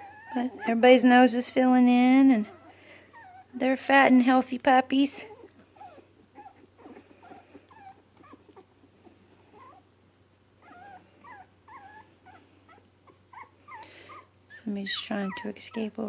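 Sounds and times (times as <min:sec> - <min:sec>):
puppies whimpering: 0:00.0 - 0:01.8, 0:02.4 - 0:03.6, 0:05.1 - 0:09.9, 0:10.6 - 0:16.0.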